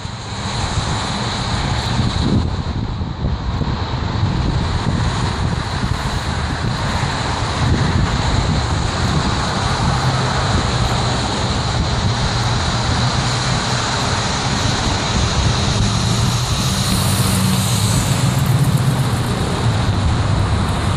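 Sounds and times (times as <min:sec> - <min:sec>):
car engines: 0:00.0 - 0:20.9
heavy truck engine hum: 0:00.0 - 0:20.9.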